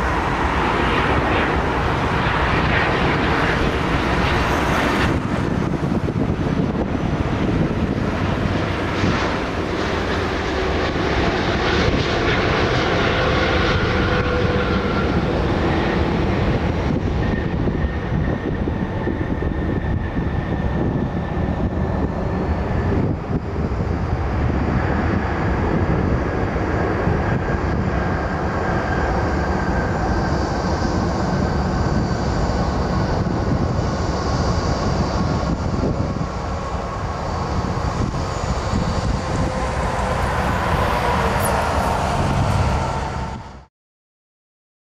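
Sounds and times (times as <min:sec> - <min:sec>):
jet engine whine: 0:00.0 - 0:43.7
jet engines rumbling: 0:00.0 - 0:43.7.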